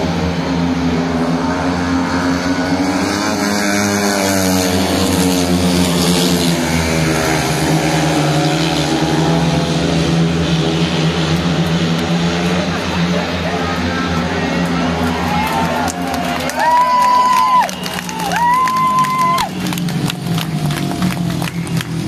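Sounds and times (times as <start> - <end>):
motorcycles racing: 0.0 - 22.0.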